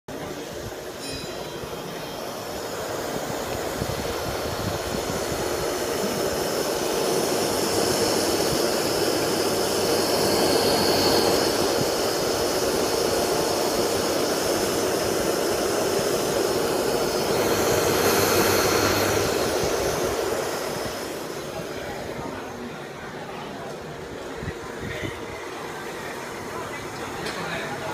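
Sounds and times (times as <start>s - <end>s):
water pump motor whirring hum: 0.1s - 27.9s.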